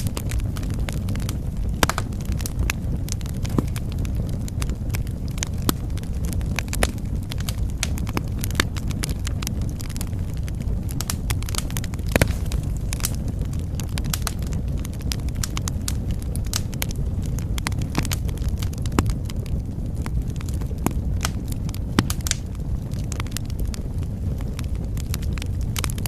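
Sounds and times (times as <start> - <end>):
low rumble of flames: 0.0 - 26.0
wood fire crackling and popping: 0.0 - 26.0.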